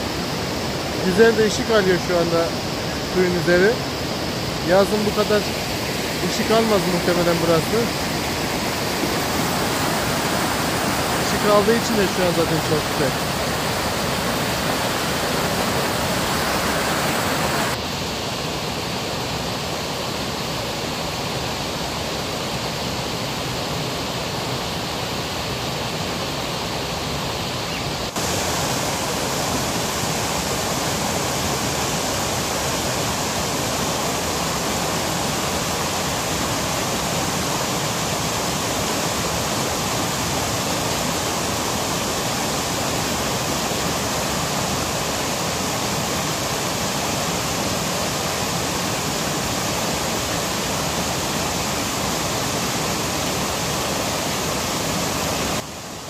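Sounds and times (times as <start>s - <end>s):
water rushing over waterfall: 0.0s - 56.0s.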